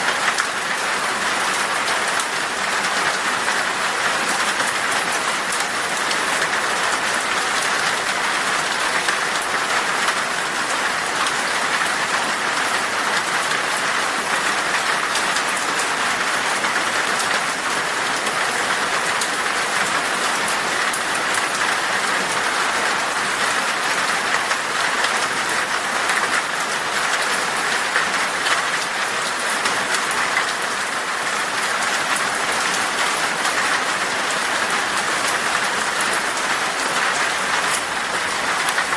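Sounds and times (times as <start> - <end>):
heavy rain on glass: 0.0 - 38.9.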